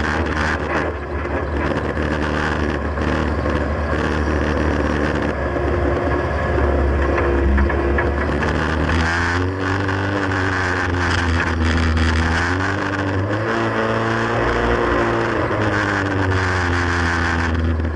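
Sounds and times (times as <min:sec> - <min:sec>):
car engine at low revs: 0:00.0 - 0:17.9.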